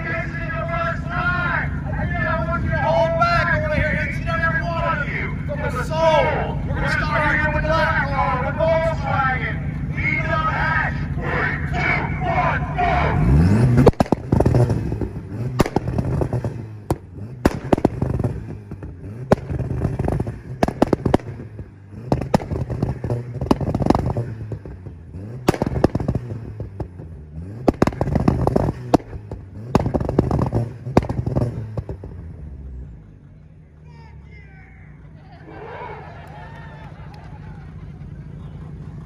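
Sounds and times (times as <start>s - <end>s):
exhaust pops and bangs: 0.0s - 33.5s
car engine revving: 0.0s - 39.0s.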